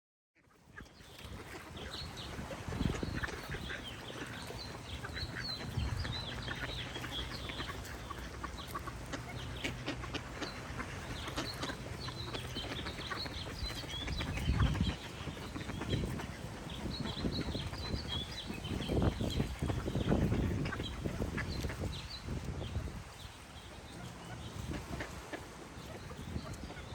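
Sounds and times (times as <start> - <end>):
ducks quacking: 0.4 - 26.9
songbirds chirping: 0.4 - 26.9.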